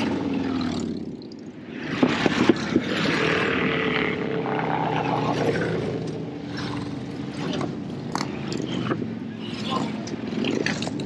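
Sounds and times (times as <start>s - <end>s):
motorcycles riding past: 0.0s - 11.0s.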